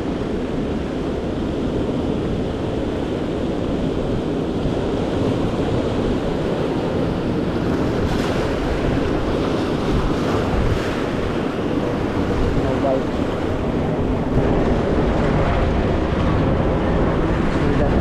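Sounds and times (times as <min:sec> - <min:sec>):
ocean surf washing: 0:00.0 - 0:18.0
wind rumbling on microphone: 0:00.0 - 0:18.0
hissing wave washes: 0:02.4 - 0:18.0.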